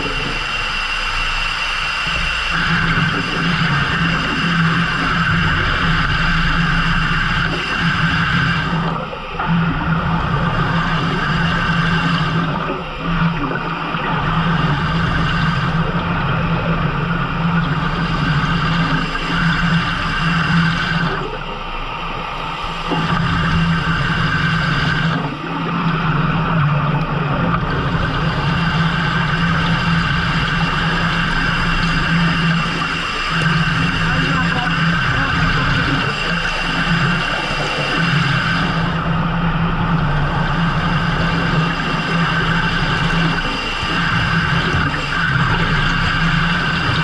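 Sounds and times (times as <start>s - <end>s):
boat engine running: 0.0s - 47.0s
water noise: 0.0s - 47.0s.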